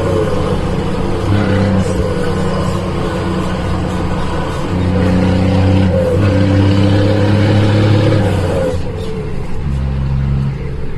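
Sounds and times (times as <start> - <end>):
diesel truck engine revving: 0.0 - 10.9.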